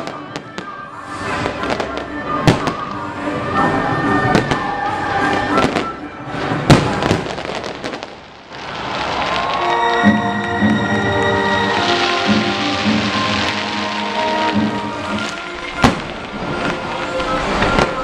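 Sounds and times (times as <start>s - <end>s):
fireworks bursting and crackling: 0.0s - 18.0s
music: 0.0s - 18.0s.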